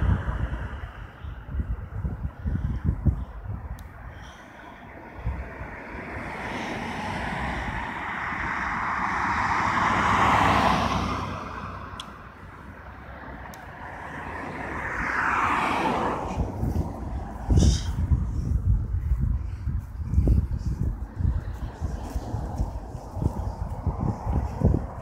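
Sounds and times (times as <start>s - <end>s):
cars passing by: 0.0s - 25.0s.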